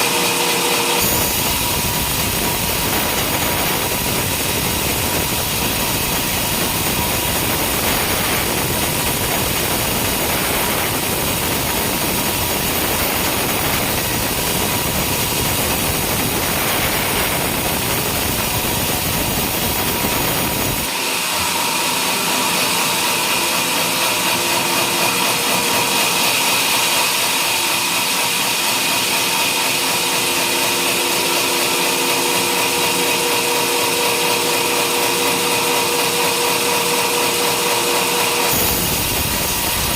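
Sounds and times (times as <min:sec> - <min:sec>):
high steady machine whine: 0:00.0 - 0:39.9
sawmill sawing: 0:00.0 - 0:39.9.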